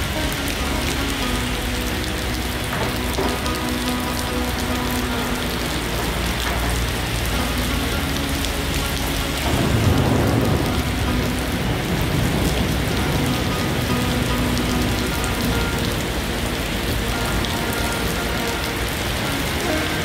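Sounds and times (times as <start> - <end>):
rain on wet pavement: 0.0 - 20.0
thunder rumbling: 0.0 - 20.0.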